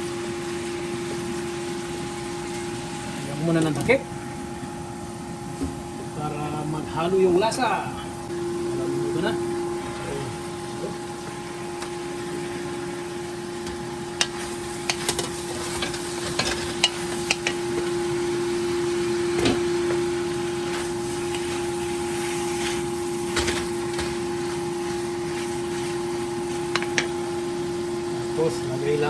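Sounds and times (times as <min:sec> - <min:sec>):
stovetop hum and hiss: 0:00.0 - 0:29.0.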